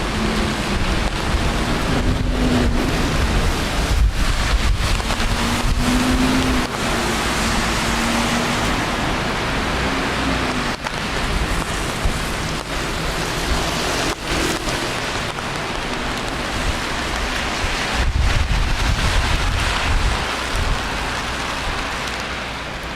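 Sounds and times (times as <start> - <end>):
low traffic rumble: 0.0 - 22.9
steady rain: 0.0 - 22.9.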